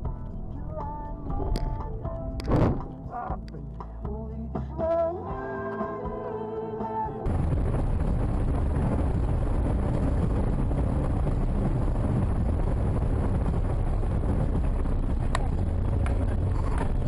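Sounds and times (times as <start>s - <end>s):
car road and wind rumble: 0.0s - 5.3s, 6.9s - 17.0s.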